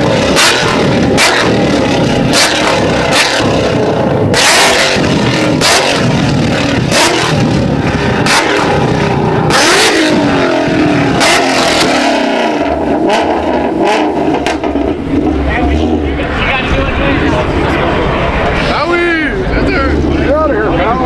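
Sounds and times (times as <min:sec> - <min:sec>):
loud sharp exhaust bursts: 0:00.0 - 0:20.7
car engine revving: 0:00.0 - 0:21.0.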